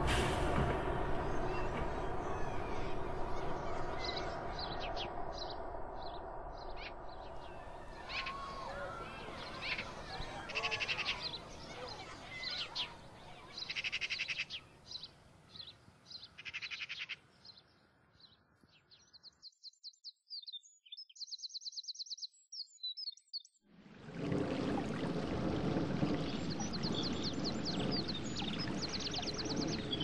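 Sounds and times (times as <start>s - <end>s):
low outdoor background: 0.0s - 19.7s, 23.6s - 30.0s
songbirds trilling and chirping: 1.1s - 23.6s, 25.6s - 30.0s.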